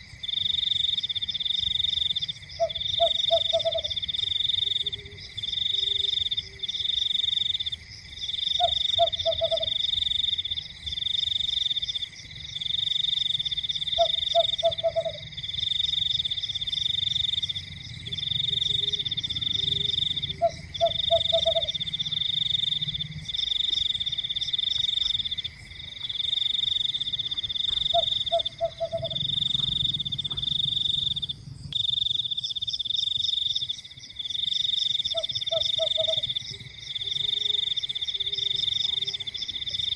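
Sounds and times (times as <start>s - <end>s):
frog croaking: 0.0s - 39.9s
frogs trilling: 0.0s - 39.9s.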